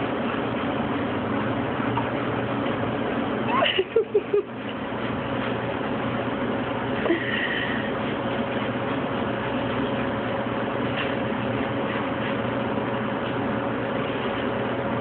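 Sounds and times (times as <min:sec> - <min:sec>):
kitchen machinery rushing noise: 0:00.0 - 0:15.0
steady hum: 0:00.0 - 0:15.0.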